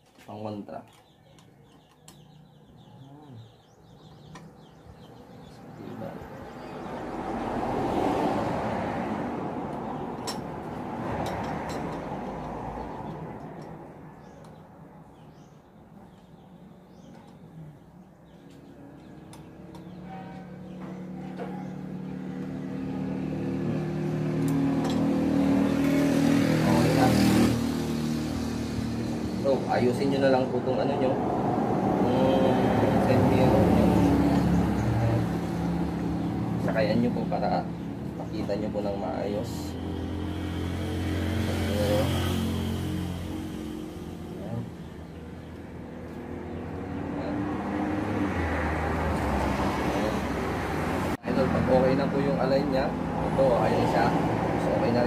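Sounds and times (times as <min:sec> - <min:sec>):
motor vehicle passing: 0:00.4 - 0:55.0.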